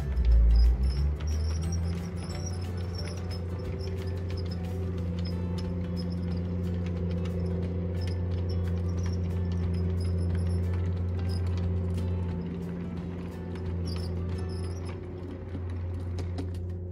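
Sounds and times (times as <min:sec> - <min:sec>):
model locomotive engine drone: 0:00.0 - 0:16.9
wheels clicking over track: 0:00.0 - 0:16.9.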